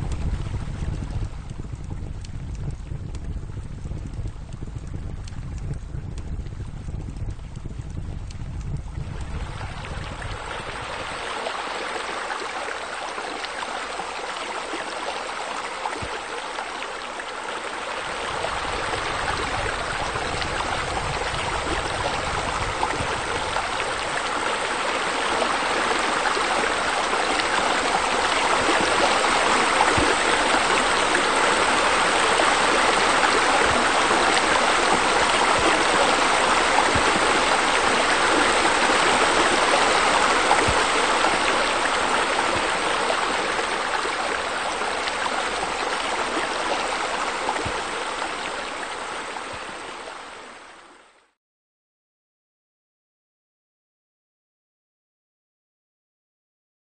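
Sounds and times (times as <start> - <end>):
running water rushing: 0.0 - 51.4.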